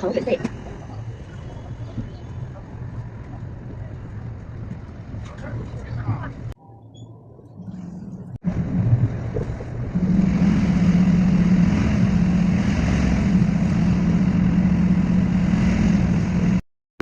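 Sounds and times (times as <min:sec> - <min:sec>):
bus engine and road noise: 0:00.0 - 0:16.6.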